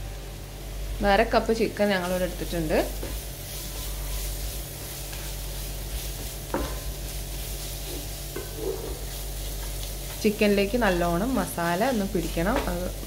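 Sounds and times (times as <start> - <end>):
food sizzling in pan: 0.0 - 13.0
spatula scraping frying pan: 2.1 - 12.8.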